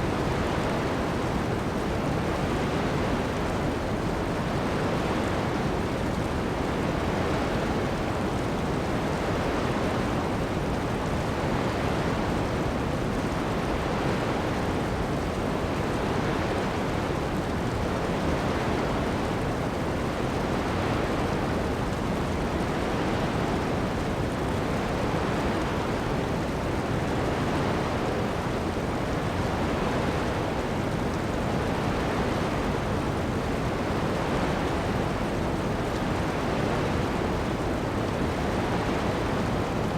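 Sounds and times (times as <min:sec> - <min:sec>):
heavy rain: 0:00.0 - 0:39.9
ocean waves washing onto beach: 0:00.0 - 0:39.9.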